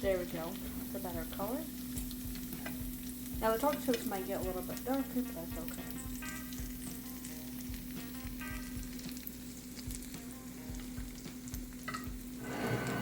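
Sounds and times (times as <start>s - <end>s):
bread frying in oil: 0.0s - 13.0s.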